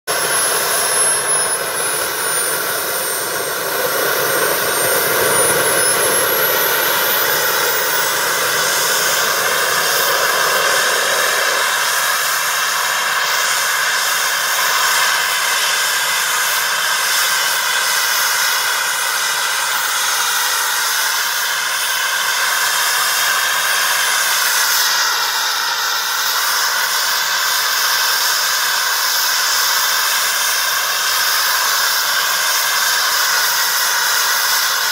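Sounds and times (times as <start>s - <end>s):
model jet turbine whining: 0.0s - 34.9s.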